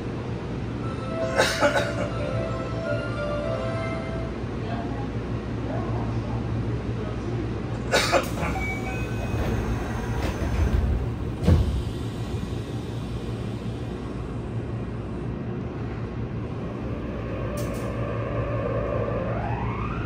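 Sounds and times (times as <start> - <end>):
subway car low hum: 0.0 - 20.0.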